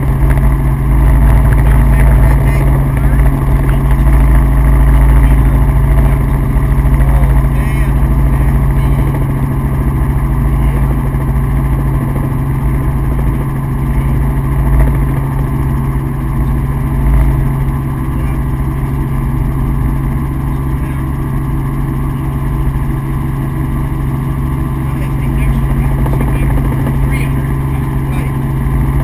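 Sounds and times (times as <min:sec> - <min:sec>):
helicopter engine and rotors drone: 0:00.0 - 0:29.0.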